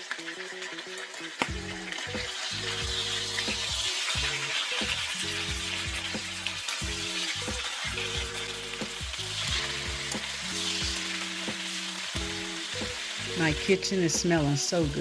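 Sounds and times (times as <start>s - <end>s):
chicken sizzling in hot oil: 0.0s - 15.0s
oil popping and crackling: 0.0s - 15.0s.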